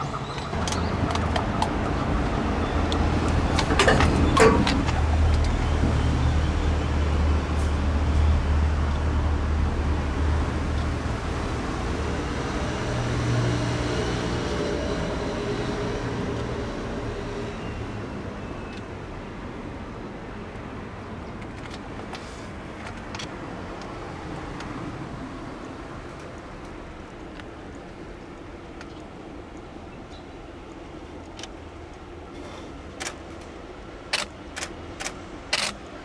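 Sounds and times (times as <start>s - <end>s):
low rumble of traffic: 0.0s - 36.0s.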